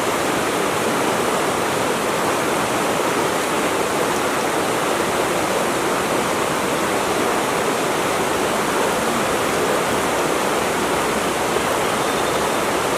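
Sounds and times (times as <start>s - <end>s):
flowing water rushing: 0.0s - 12.9s.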